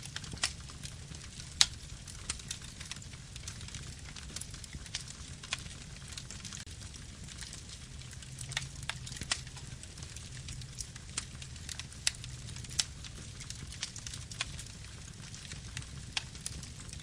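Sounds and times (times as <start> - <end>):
campfire crackling and popping: 0.0 - 17.0
fire low rumble: 0.0 - 17.0.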